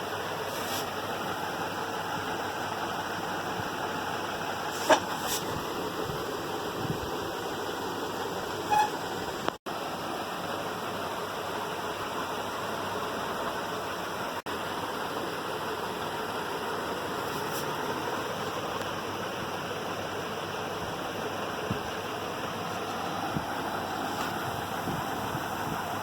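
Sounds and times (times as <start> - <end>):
hissing car engine running: 0.0 - 26.0.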